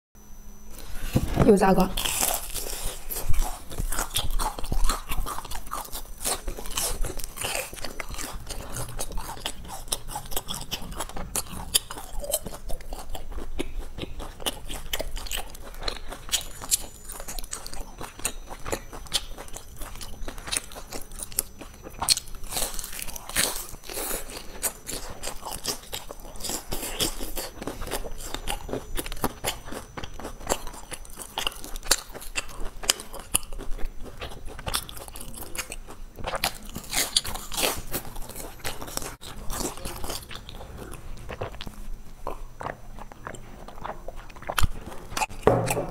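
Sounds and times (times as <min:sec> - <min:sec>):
crunchy chewing: 0:00.3 - 0:45.9.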